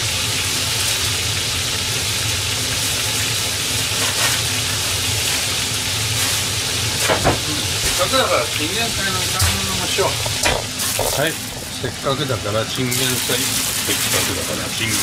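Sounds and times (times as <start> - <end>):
oil sizzling with frying fish: 0.0 - 15.0.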